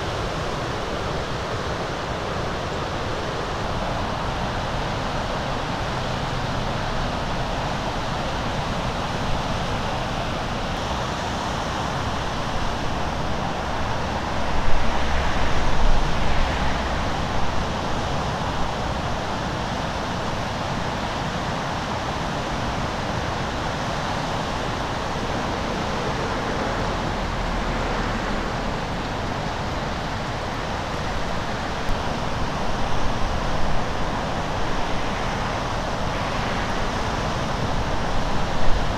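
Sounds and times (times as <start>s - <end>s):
surf breaking along shore: 0.0s - 38.9s.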